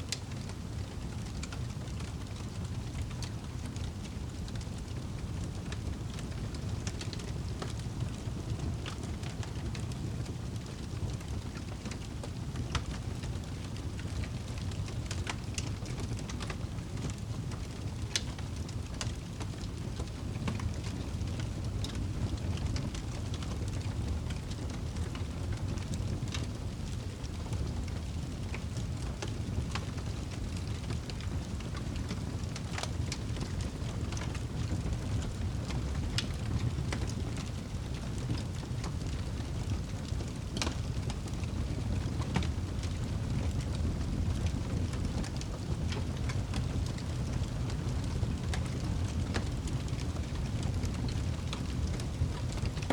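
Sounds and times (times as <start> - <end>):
log fire rumbling and crackling: 0.0 - 52.9.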